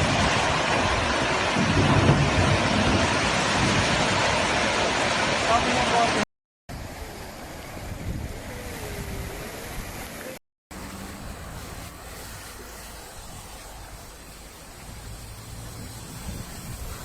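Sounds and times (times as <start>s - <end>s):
storm wind and water rushing: 0.0s - 17.0s.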